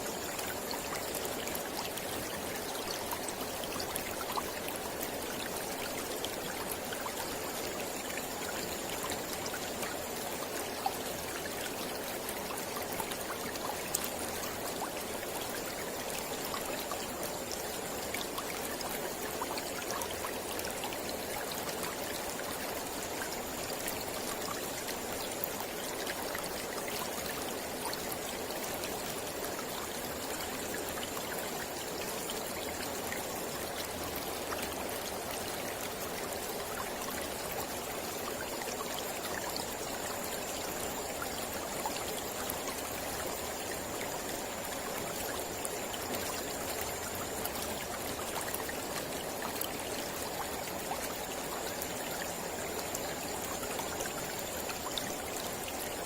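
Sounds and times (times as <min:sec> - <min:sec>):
water splashes and trickles: 0:00.0 - 0:56.0.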